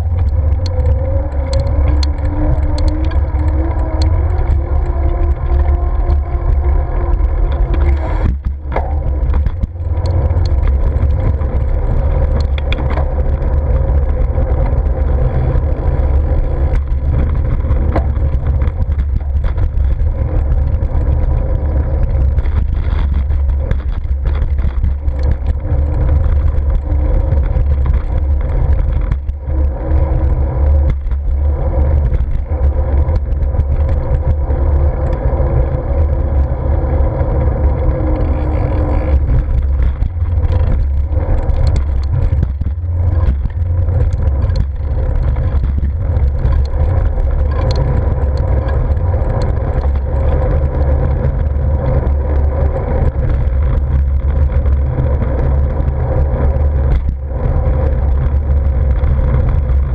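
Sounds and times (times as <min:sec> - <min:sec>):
small knocks from riding: 0:00.0 - 0:35.4, 0:37.3 - 0:59.9
road noise: 0:00.0 - 0:59.9
wind buffeting microphone: 0:00.0 - 0:59.9.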